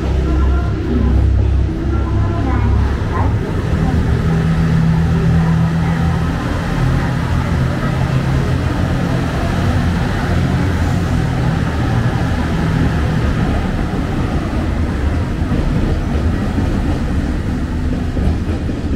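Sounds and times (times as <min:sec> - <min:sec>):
diesel engines droning: 0:00.0 - 0:18.0
train rolling noise: 0:00.0 - 0:18.9.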